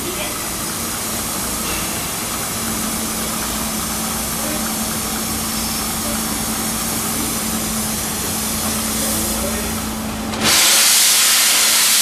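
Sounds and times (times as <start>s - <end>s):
steady low hum: 0.0s - 10.4s
steam hissing: 0.0s - 12.0s.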